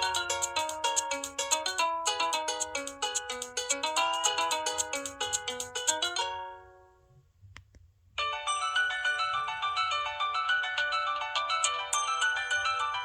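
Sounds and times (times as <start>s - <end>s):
electronic ringtone melody: 0.0s - 6.7s, 8.2s - 13.0s.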